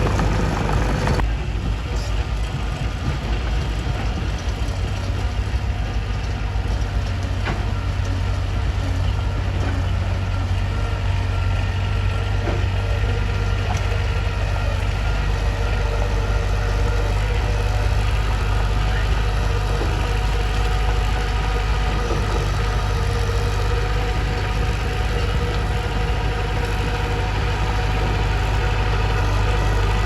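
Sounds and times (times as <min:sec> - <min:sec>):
bulldozer diesel engine droning: 0:00.0 - 0:30.0.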